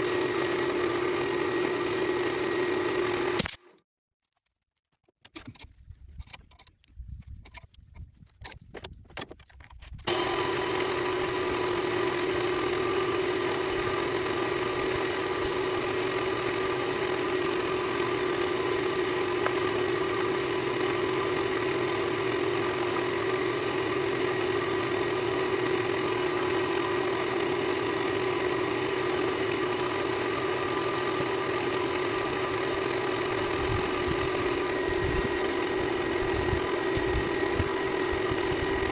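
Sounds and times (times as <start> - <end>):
wood lathe motor humming: 0.0 - 3.5, 10.1 - 38.9.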